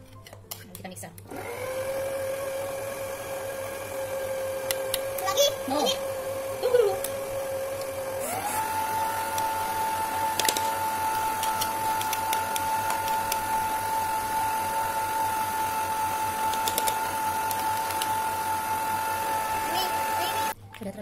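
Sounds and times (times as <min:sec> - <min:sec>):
stand mixer motor whining: 0:01.3 - 0:20.6.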